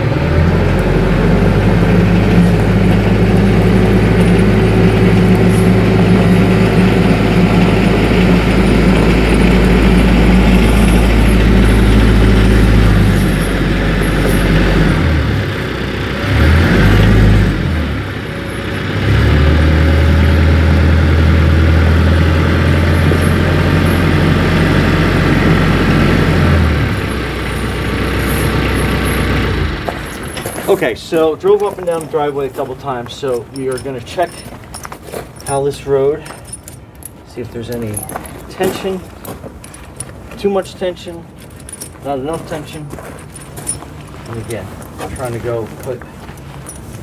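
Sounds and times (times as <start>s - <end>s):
tractor diesel engine running: 0.0s - 40.4s.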